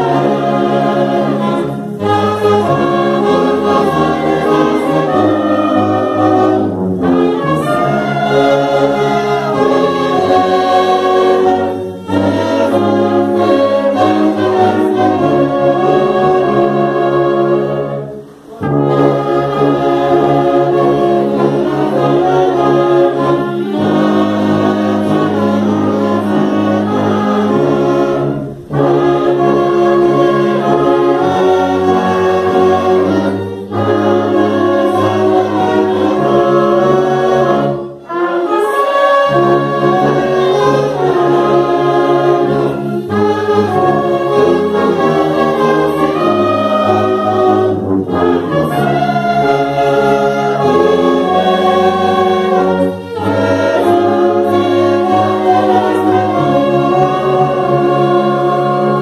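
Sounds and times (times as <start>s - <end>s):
wind orchestra playing slow chords: 0.0s - 59.0s.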